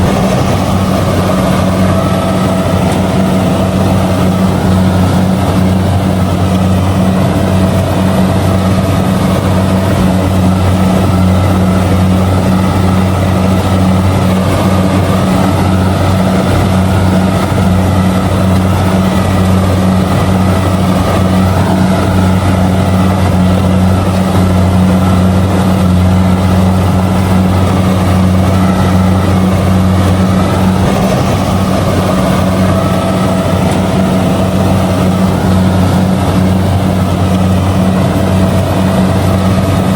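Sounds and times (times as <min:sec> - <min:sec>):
combine harvester diesel engine: 0:00.0 - 0:39.9
machinery rattling: 0:00.0 - 0:39.9.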